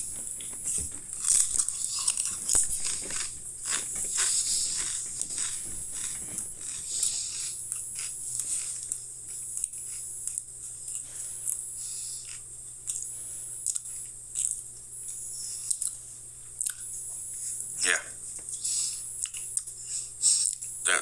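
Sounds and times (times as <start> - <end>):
person chewing crisps: 0.0 - 14.7, 15.6 - 16.0, 16.6 - 16.9, 18.6 - 20.8.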